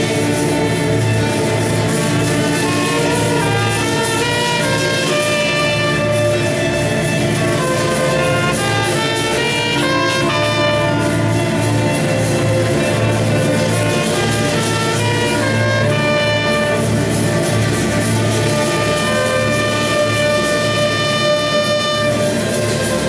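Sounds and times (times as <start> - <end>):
trumpet and violins melody: 0.0 - 23.0.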